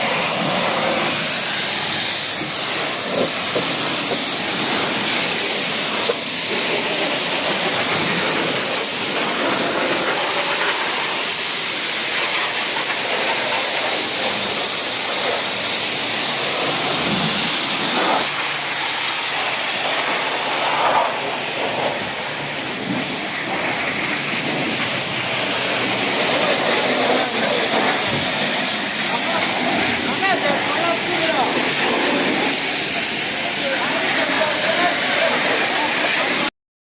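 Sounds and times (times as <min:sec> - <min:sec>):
pressure washer spraying water: 0:00.0 - 0:36.5.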